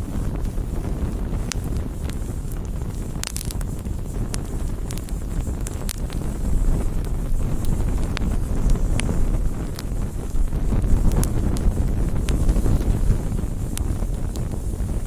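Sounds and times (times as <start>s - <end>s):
bonfire crackling and popping: 0.0s - 15.0s
low fire rumble: 0.0s - 15.0s.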